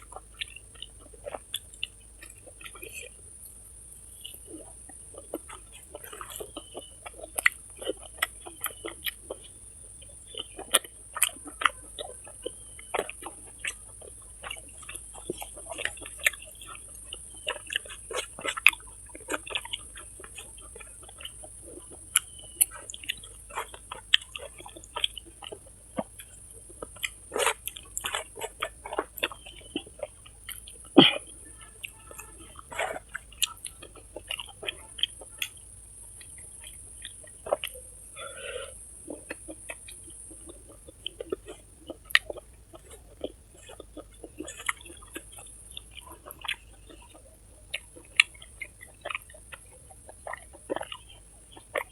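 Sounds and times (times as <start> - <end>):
chewing and mouth smacking: 0.0 - 51.9.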